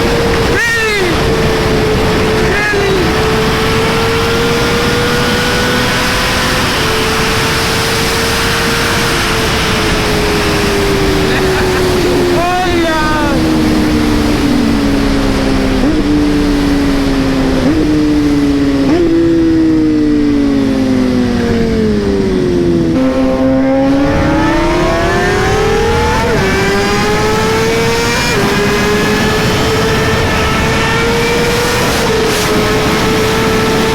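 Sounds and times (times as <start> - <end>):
wind rush on microphone: 0.0 - 23.0, 23.8 - 33.9
motorcycle engine revving: 0.0 - 33.9.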